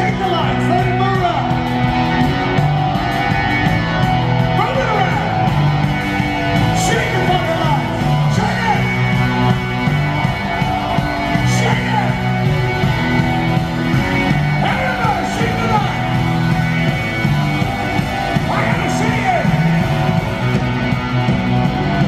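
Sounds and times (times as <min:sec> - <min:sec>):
live rock band playing: 0:00.0 - 0:22.0
repeating bass line: 0:00.0 - 0:22.0.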